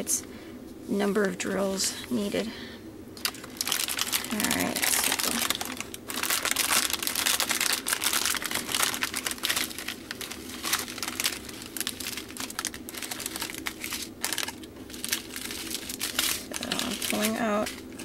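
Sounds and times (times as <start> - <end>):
plastic bag crinkling: 3.2 - 18.0.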